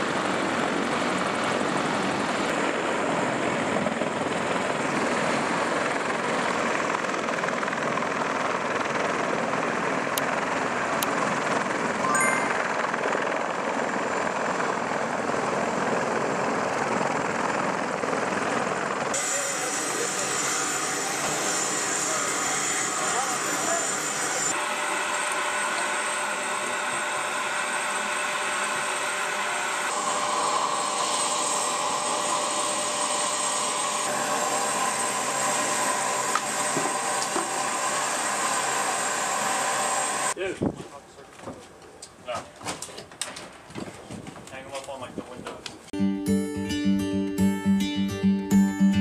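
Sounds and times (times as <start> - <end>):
helicopter rotor and turbine noise: 0.0 - 40.4.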